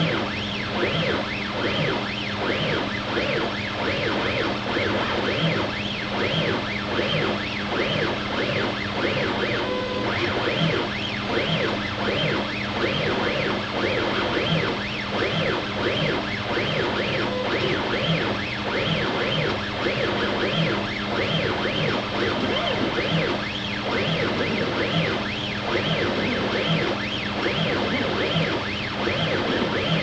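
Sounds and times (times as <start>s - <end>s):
steady low hum: 0.0s - 30.0s
stepper motors whining: 4.8s - 30.0s.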